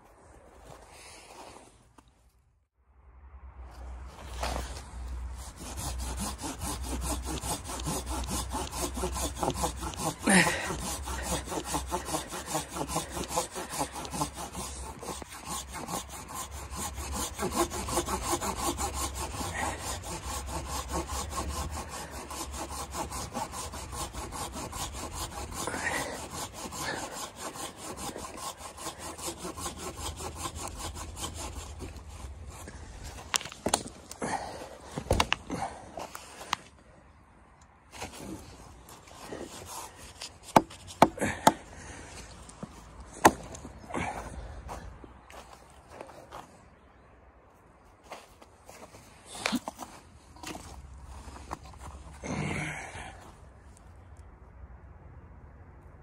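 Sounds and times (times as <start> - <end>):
hand saw cutting log: 4.2 - 36.6, 37.9 - 46.5, 48.1 - 53.1.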